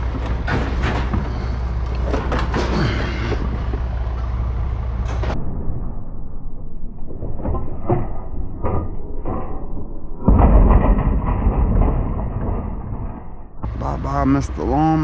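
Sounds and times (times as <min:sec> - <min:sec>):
heavy metal clatter: 0:00.0 - 0:05.5, 0:07.2 - 0:15.0.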